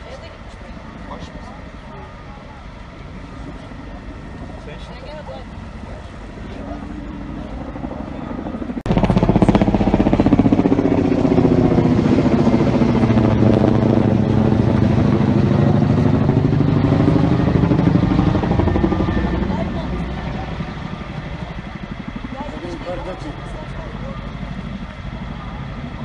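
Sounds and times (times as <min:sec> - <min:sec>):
combustion engine running: 0:00.0 - 0:26.0.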